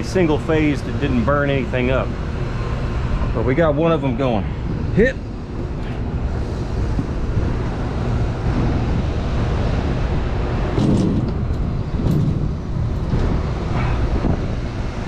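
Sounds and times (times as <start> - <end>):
fan motors humming: 0.0 - 15.0.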